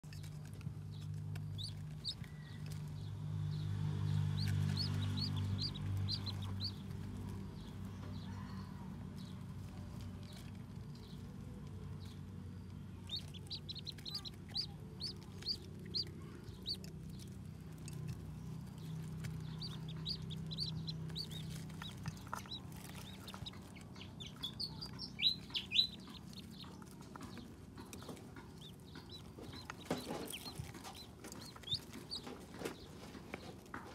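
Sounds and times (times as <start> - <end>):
steady low hum: 0.0 - 8.5, 9.2 - 33.9
ducklings peeping: 0.0 - 33.9.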